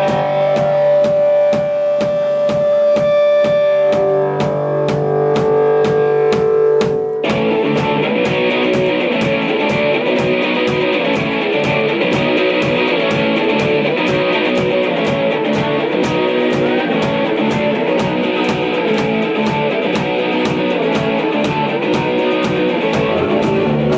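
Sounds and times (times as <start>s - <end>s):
drum beat: 0.0s - 23.9s
electric guitar: 0.0s - 23.9s.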